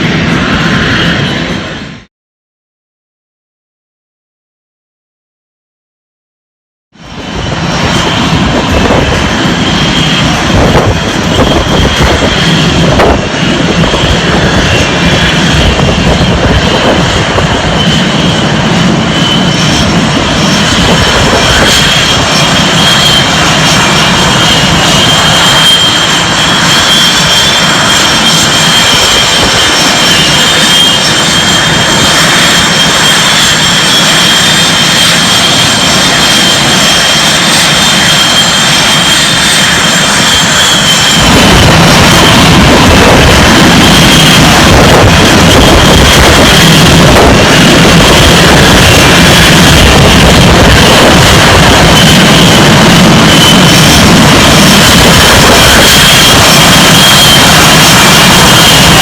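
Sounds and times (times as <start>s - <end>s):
jet engines roaring: 0.0s - 2.1s, 7.0s - 59.0s.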